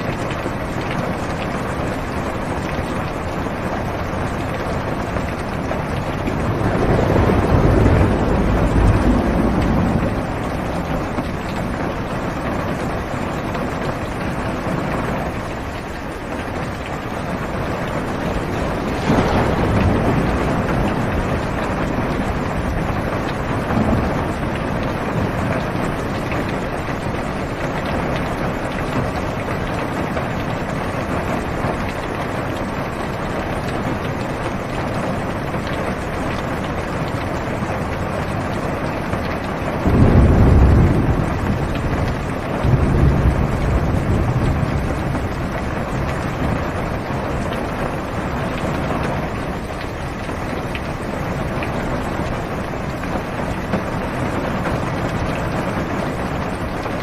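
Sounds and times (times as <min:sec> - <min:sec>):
heavy rain on car roof: 0:00.0 - 0:57.0
thunder rumbling: 0:00.0 - 0:57.0.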